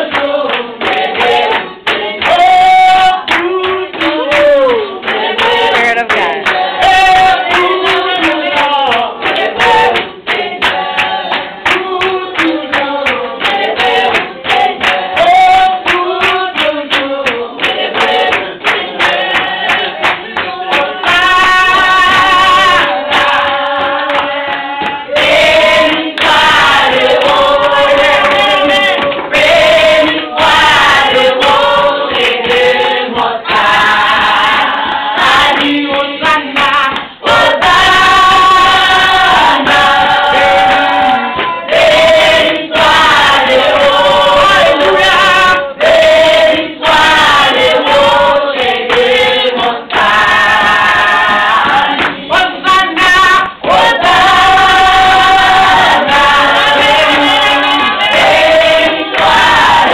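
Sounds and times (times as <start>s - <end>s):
rhythmic hand clapping: 0.0s - 59.9s
women singing together: 0.0s - 59.9s.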